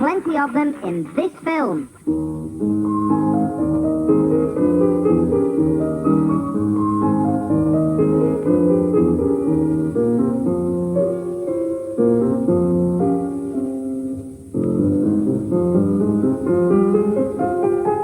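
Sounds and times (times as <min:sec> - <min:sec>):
piano music: 0:02.0 - 0:18.0.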